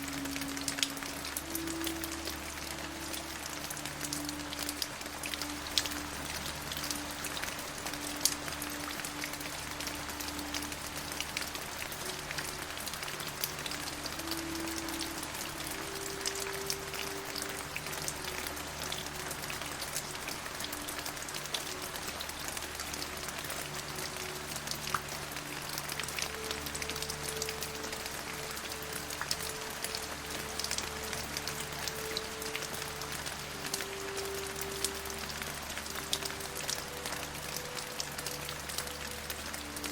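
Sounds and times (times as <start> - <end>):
rain drops tapping: 0.0 - 39.9
soft low music pad: 0.0 - 39.9.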